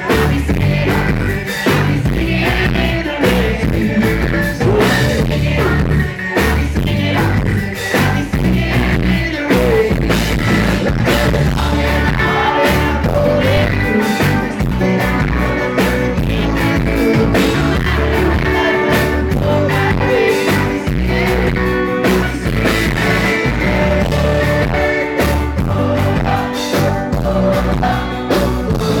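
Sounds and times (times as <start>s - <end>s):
bass guitar: 0.0s - 29.0s
electric guitars: 0.0s - 29.0s
lead vocal singing: 0.0s - 29.0s.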